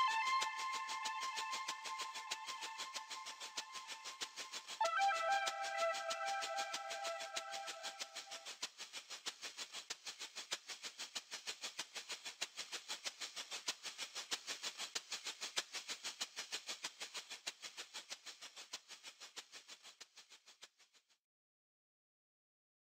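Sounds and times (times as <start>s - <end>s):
fast hissy clicks: 0.0s - 20.8s.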